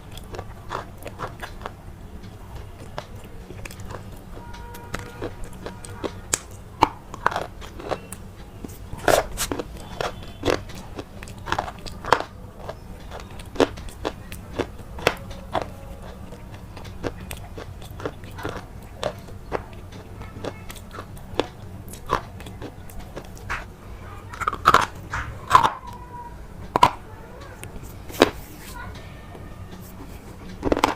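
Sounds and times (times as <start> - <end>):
crunchy food being chewed: 0.0 - 28.9, 29.7 - 30.9.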